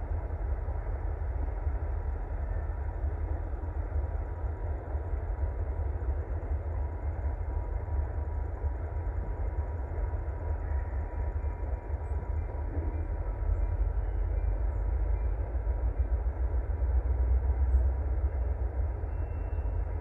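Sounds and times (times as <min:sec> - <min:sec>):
diesel locomotive engines rumbling: 0:00.0 - 0:20.0
faint steady tone: 0:00.0 - 0:20.0.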